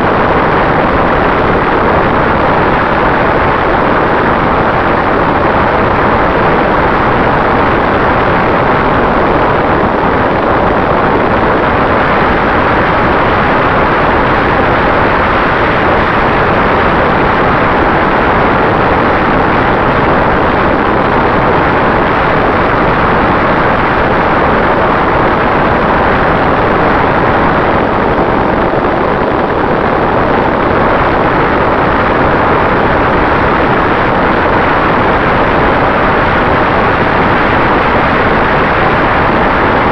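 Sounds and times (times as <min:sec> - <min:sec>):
drone propeller and wind rush: 0:00.0 - 0:39.9
faint constant tone: 0:00.0 - 0:39.9.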